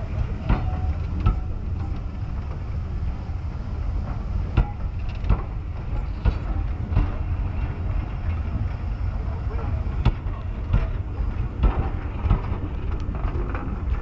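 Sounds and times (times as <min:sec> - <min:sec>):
train coaches rumbling past: 0:00.0 - 0:14.0
wheels clunking on track: 0:00.0 - 0:14.0.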